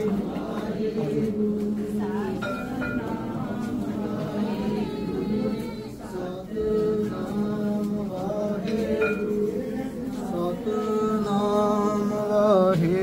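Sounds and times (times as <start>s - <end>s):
voices chanting a hymn: 0.0s - 13.0s.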